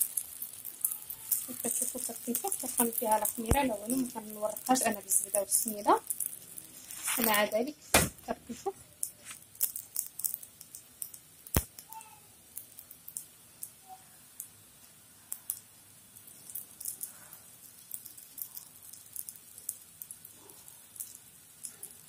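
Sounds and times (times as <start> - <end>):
hot oil crackling and popping: 0.0 - 22.0.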